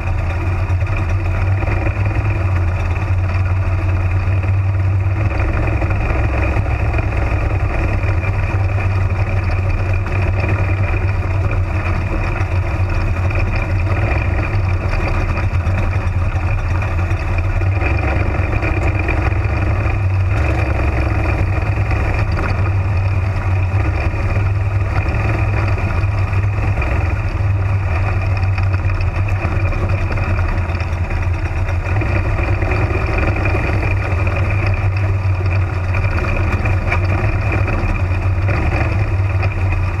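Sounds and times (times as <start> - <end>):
race car engine droning: 0.0 - 40.0.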